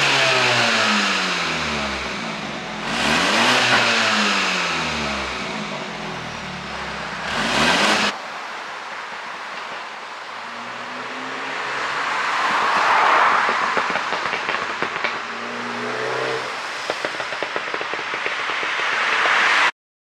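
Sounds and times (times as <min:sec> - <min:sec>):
car engine revving: 0:00.0 - 0:09.4, 0:10.2 - 0:19.6
exhaust crackling and popping: 0:00.0 - 0:10.0, 0:11.5 - 0:19.7.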